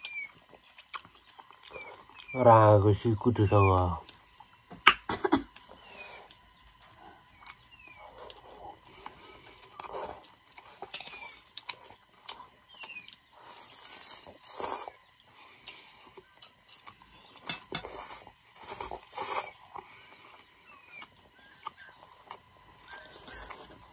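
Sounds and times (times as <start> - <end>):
person eating: 0.0 - 2.4, 3.6 - 23.9.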